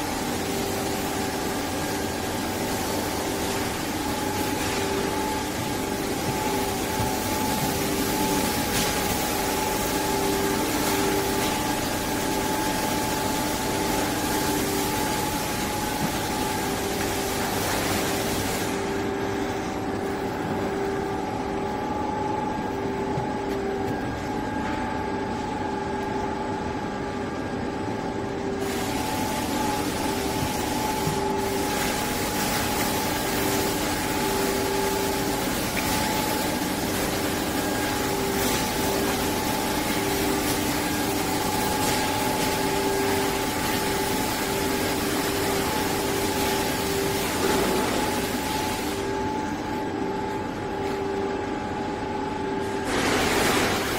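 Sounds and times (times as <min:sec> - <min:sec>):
lamination machine humming: 0:00.0 - 0:53.9.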